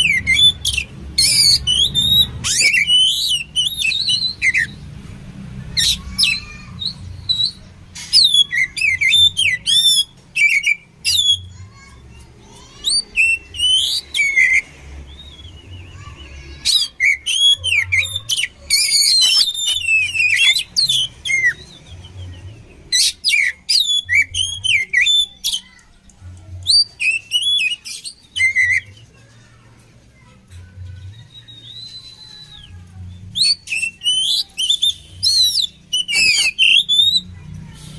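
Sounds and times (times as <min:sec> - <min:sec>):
songbird singing: 0:00.0 - 0:05.0, 0:05.7 - 0:29.5, 0:30.1 - 0:37.9.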